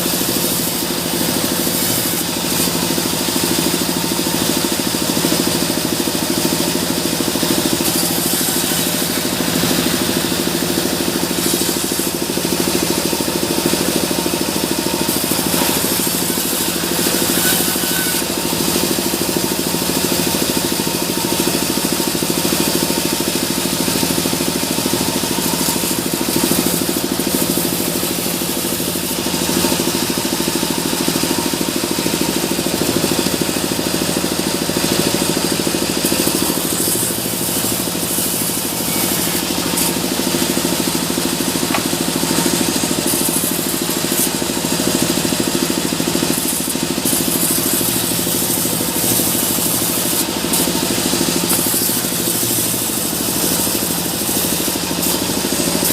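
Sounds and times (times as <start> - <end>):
sawmill machinery drone: 0.0 - 55.9.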